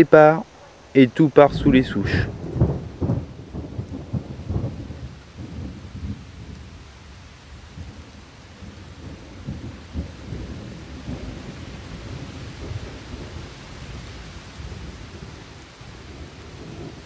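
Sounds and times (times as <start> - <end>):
steady rain: 0.0 - 17.0
thunder rumbling: 1.4 - 17.0.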